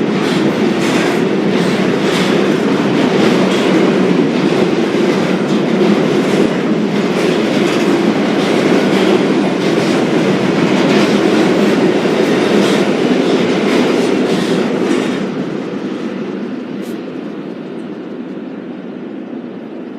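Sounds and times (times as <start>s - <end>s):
freight train rumbling and rattling: 0.0s - 19.9s.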